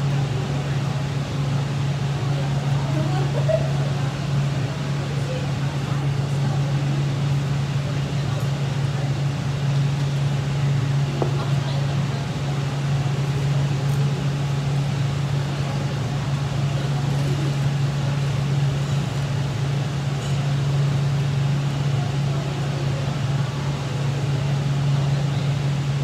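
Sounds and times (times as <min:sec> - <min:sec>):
ventilation fan droning: 0:00.0 - 0:26.0.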